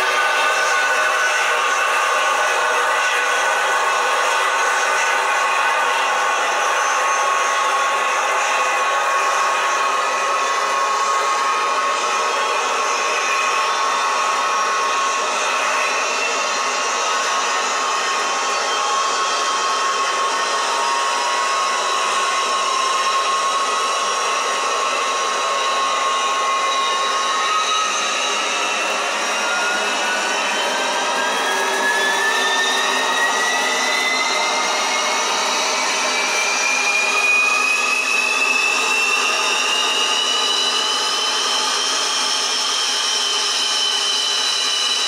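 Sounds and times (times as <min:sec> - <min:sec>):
simulated jet turbine whine: 0:00.0 - 0:45.0.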